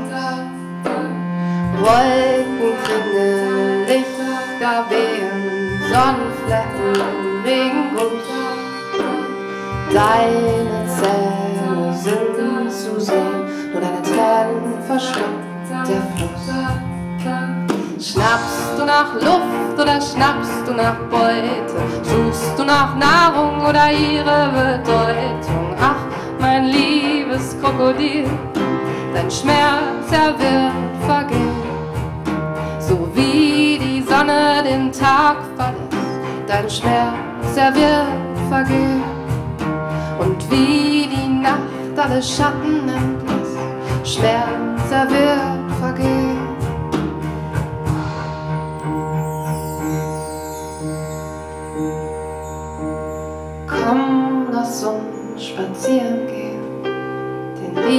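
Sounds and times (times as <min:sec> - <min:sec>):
person singing: 0:00.0 - 0:46.9, 0:53.7 - 0:57.9
live acoustic band: 0:00.0 - 0:57.9.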